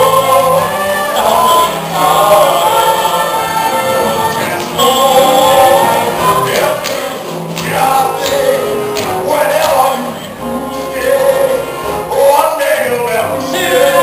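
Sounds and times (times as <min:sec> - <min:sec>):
group singing with backing music: 0:00.0 - 0:14.0.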